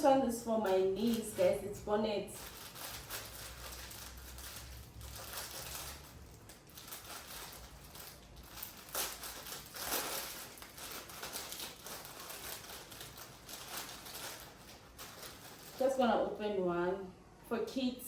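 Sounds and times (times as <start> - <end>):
packaging rustling and crinkling: 0.0 - 16.4.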